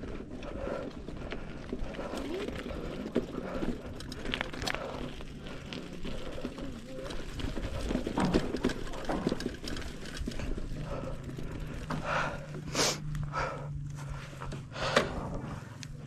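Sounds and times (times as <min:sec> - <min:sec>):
heavy breaths: 0:00.0 - 0:16.0
mountain bike rattling: 0:00.0 - 0:16.0
tyres crunching over stony trail: 0:00.0 - 0:16.0.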